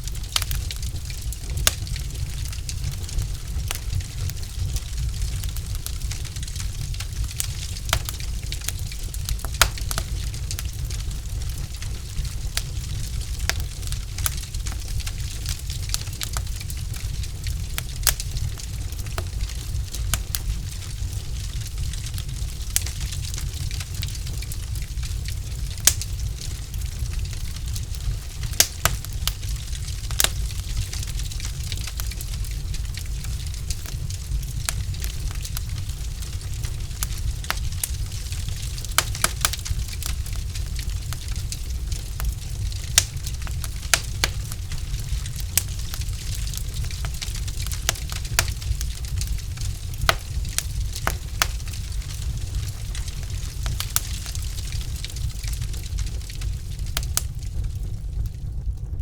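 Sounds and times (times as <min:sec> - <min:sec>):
logs crackling in fireplace: 0:00.0 - 0:59.0
loud fire pops: 0:00.0 - 0:59.0.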